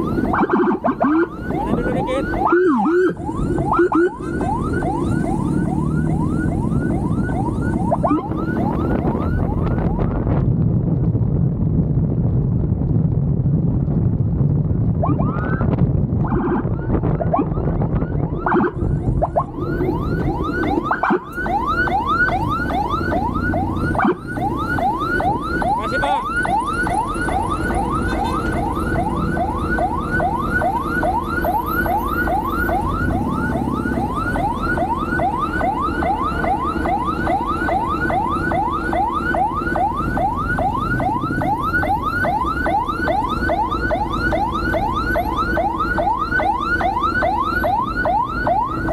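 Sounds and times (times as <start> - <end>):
siren in fast yelp: 0.0 - 10.2, 15.0 - 48.9
motorcycle rumble: 0.0 - 48.9.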